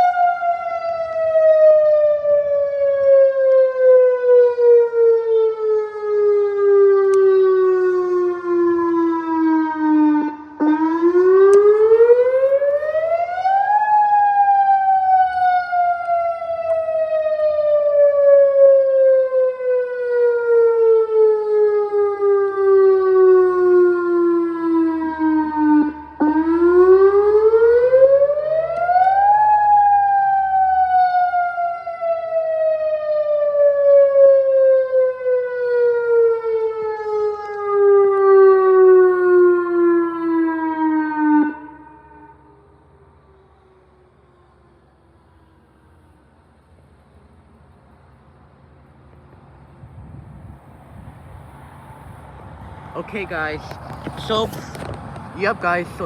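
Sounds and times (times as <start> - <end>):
warning siren wailing: 0.0 - 46.2.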